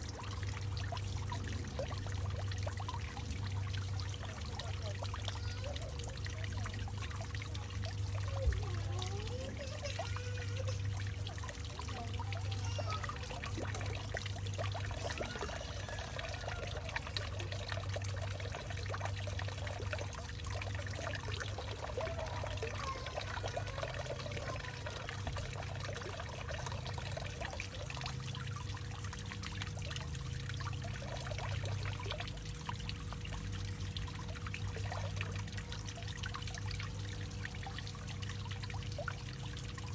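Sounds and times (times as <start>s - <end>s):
steady low hum: 0.0s - 39.9s
water trickling and gurgling: 0.0s - 39.9s.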